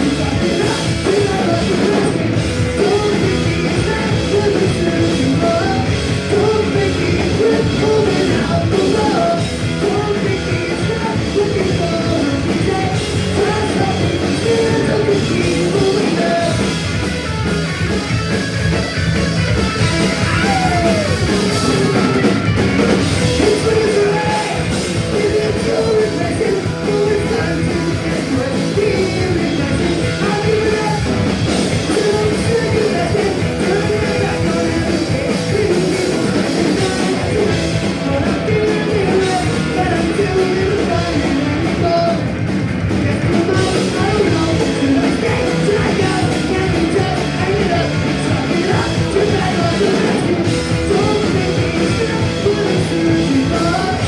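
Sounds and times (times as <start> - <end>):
person singing: 0.0 - 16.8, 19.5 - 54.0
bass: 0.0 - 54.0
distorted guitars: 0.0 - 54.0
drums: 0.0 - 54.0.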